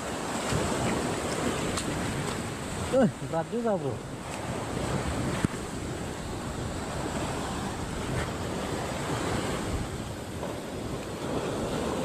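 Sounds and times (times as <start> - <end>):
small waves washing onto sand: 0.0 - 12.0.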